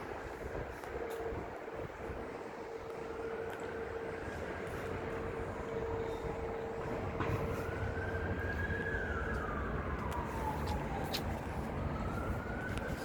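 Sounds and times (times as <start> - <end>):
emergency siren wailing: 0.0 - 13.0
low rumble of city traffic: 0.0 - 13.0.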